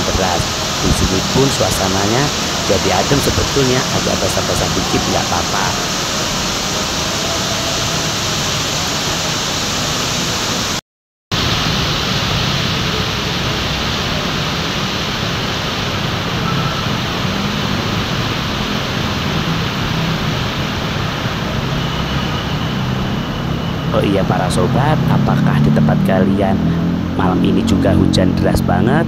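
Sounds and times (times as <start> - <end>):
heavy rain hissing: 0.0 - 10.8, 11.4 - 29.0
traffic on wet road: 0.0 - 10.8, 11.4 - 29.0.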